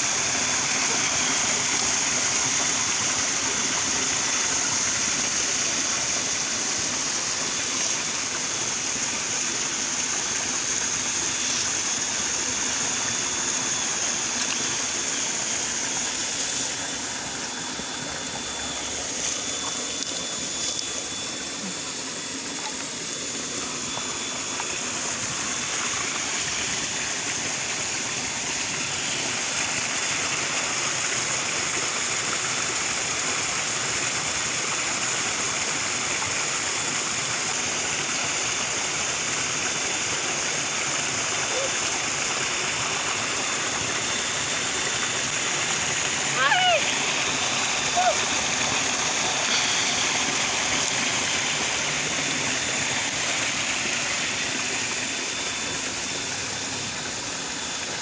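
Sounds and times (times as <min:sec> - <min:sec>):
ditch water running and rippling: 0:00.0 - 0:58.0.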